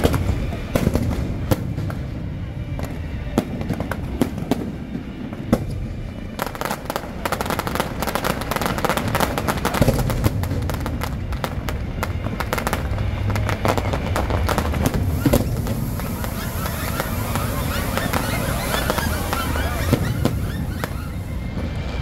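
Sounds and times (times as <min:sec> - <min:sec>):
firework bangs: 0:00.0 - 0:22.0
fireworks crackling: 0:00.0 - 0:22.0.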